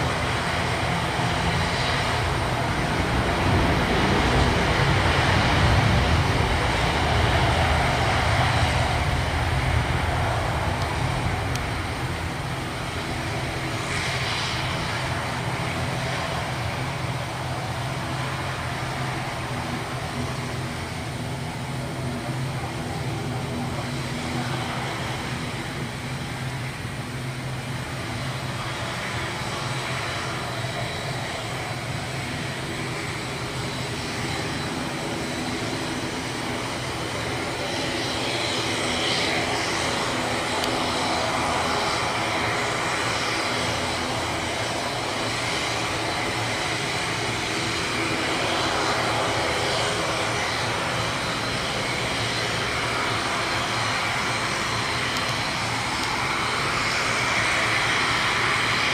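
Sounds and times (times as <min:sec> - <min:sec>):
turboprop engines whining drone: 0:00.0 - 0:58.9.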